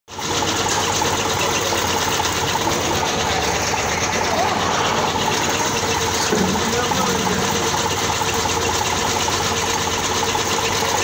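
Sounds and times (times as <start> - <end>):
machine motor chattering: 0.1 - 11.0.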